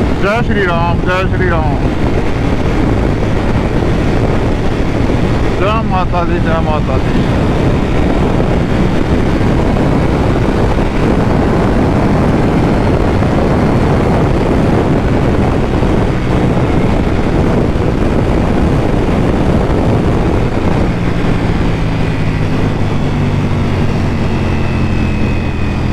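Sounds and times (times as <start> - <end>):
motorcycle engine: 0.0 - 25.9
wind rush: 0.0 - 25.9.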